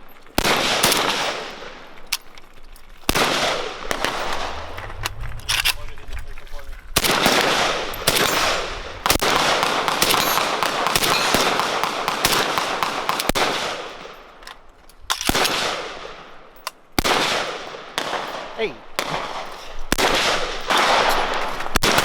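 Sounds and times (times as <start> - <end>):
gunshots with echoing tail: 0.4 - 2.0, 3.1 - 14.2, 17.0 - 22.0.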